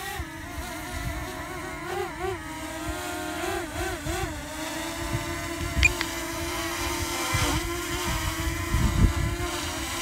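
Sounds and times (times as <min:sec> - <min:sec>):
drone propellers buzzing: 0:00.0 - 0:10.0.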